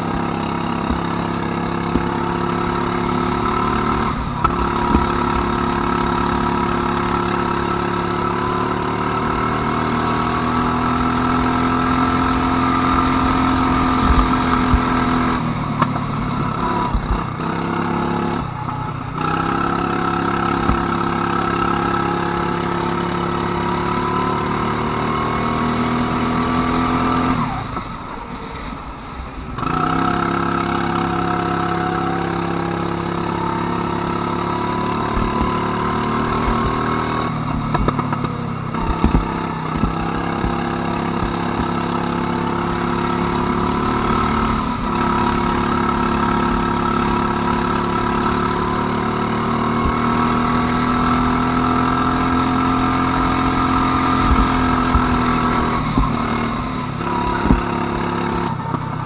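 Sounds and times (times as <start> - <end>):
go-kart engine accelerating: 0.0 - 59.0.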